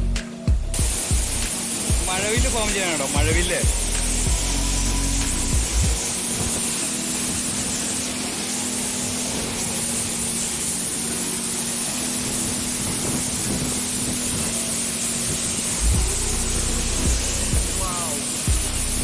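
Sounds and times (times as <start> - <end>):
waterfall rushing: 0.8 - 19.0.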